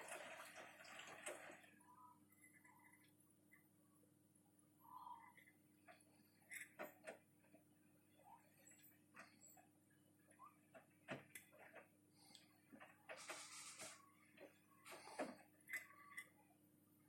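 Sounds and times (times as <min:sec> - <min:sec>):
washing machine low hum: 0:00.0 - 0:17.0.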